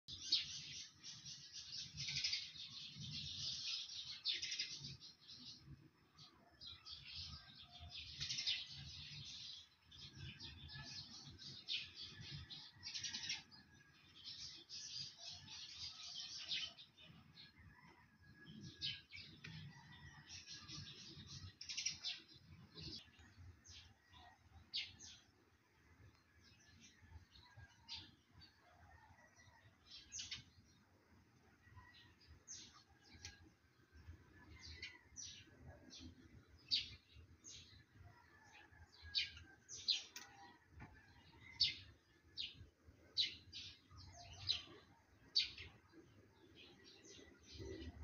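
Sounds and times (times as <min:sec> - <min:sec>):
birds chirping and twittering: 0:00.1 - 0:48.0.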